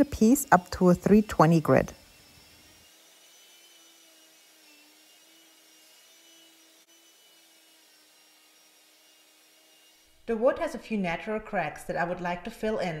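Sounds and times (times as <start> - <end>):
orbital sander whine: 0.0 - 10.5.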